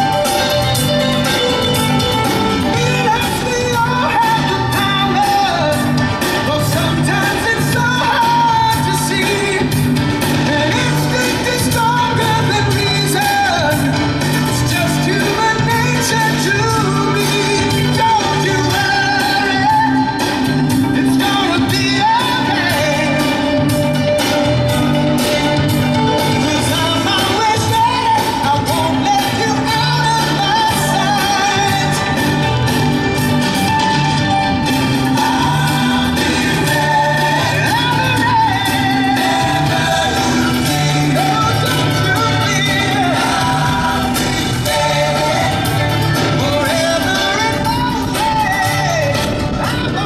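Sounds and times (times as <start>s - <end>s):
song with vocals over beat: 0.0s - 50.0s.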